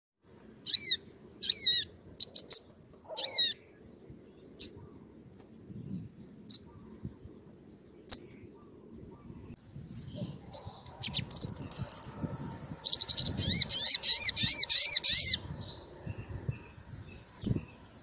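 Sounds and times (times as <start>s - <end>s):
sunbird calling: 0.2s - 18.0s.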